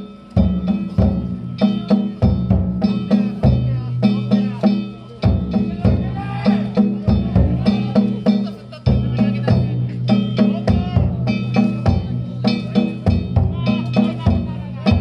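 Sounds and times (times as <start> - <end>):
hand gongs ringing: 0.0 - 15.0.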